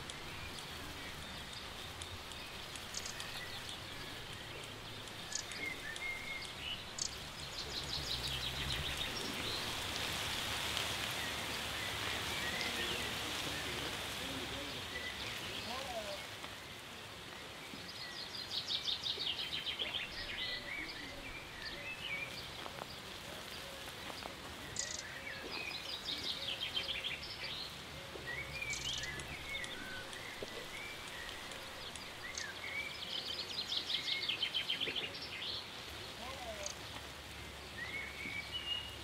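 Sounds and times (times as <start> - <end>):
background hiss: 0.0 - 39.0
songbirds singing: 0.0 - 39.0.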